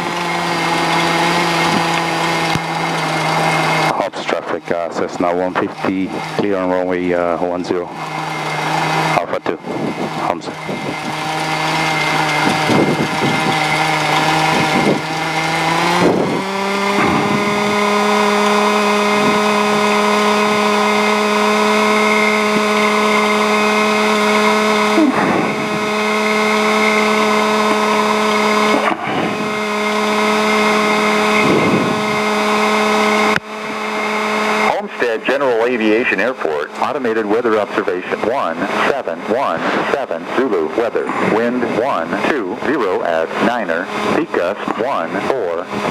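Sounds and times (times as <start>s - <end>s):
airplane piston engine drone: 0.0s - 45.9s.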